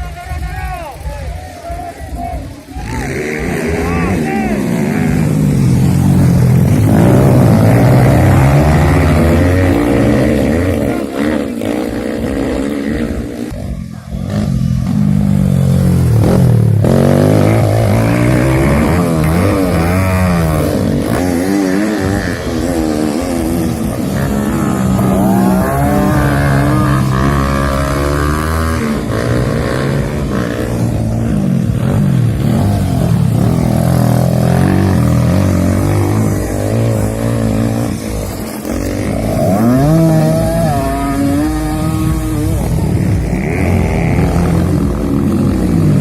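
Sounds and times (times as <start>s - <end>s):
motocross bikes racing: 0.0s - 46.0s.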